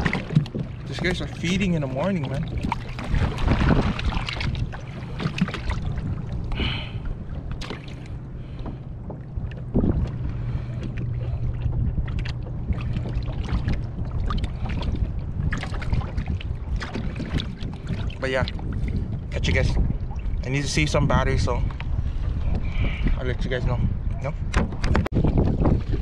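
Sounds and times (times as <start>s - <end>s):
water lapping against boat hull: 0.0s - 26.0s
wind buffeting microphone: 0.0s - 26.0s.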